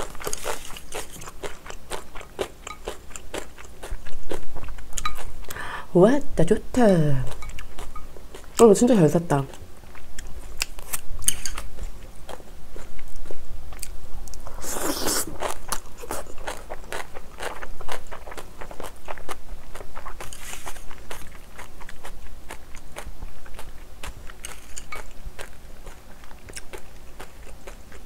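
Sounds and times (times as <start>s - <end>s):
chewing crunches: 0.0s - 5.6s, 9.5s - 28.0s.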